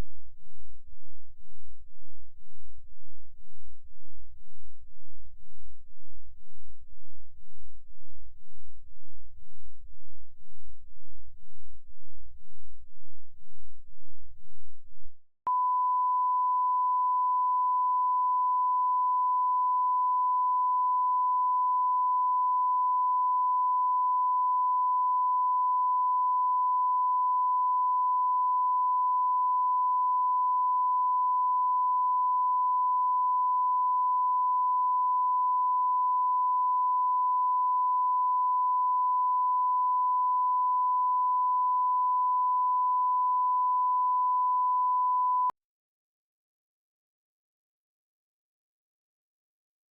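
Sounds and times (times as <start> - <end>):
sine wave test tone: 0.0 - 45.6.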